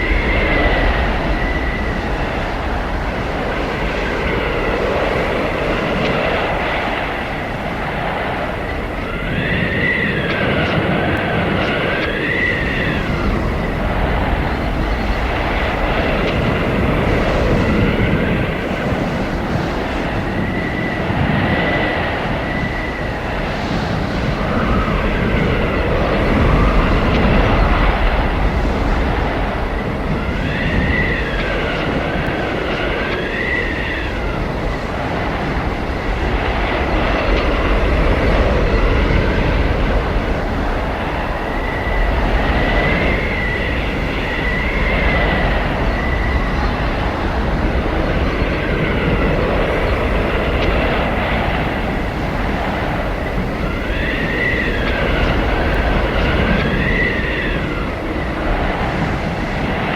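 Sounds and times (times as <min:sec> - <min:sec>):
blizzard wind rushing: 0:00.0 - 0:59.9
whistling wind howls: 0:00.0 - 0:59.9.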